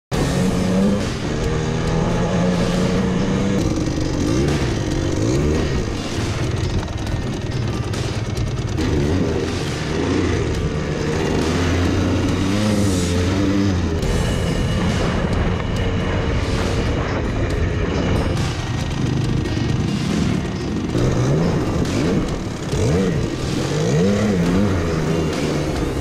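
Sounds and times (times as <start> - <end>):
dirt bike engine revving: 0.1 - 26.0.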